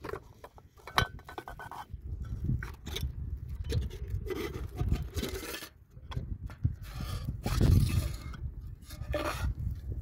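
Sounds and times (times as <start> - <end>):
metal pots scraping and knocking: 0.0 - 9.7.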